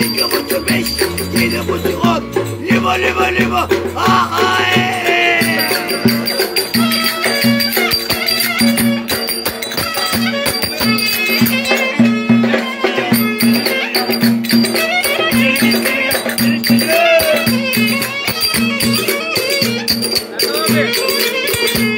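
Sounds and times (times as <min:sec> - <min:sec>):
steady drum beat: 0:00.0 - 0:21.0
banjo-like lute: 0:00.0 - 0:21.9
reed wind instrument melody: 0:00.0 - 0:21.9.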